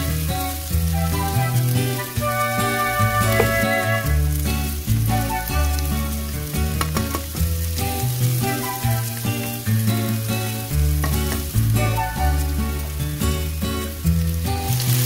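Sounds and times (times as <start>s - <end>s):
background music with bass: 0.0s - 15.0s
food sizzling in a pan: 0.0s - 15.0s.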